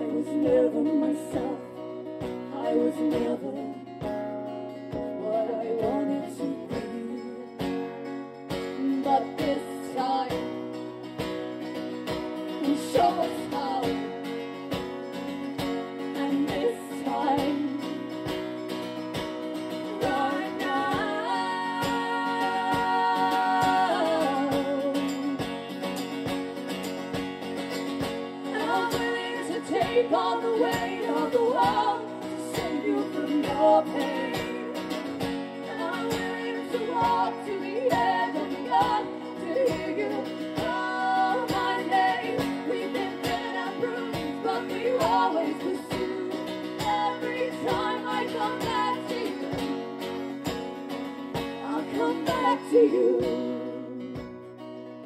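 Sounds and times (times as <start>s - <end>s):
person singing: 0.0s - 4.1s, 4.9s - 10.8s, 12.1s - 14.6s, 15.9s - 18.6s, 19.7s - 25.6s, 28.4s - 49.9s, 51.5s - 54.4s
acoustic guitars strumming: 0.0s - 55.0s.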